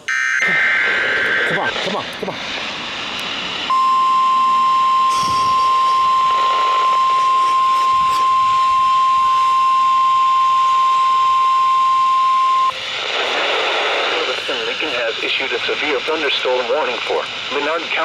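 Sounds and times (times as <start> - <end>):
steady alarm tone: 0.0 - 16.0.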